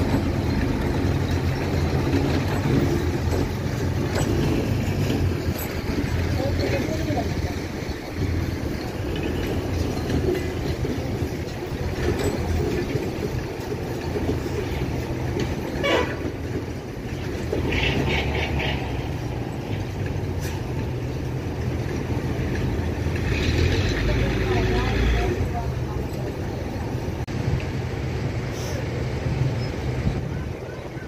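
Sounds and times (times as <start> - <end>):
heavy vehicle engine rumble: 0.0 - 31.0.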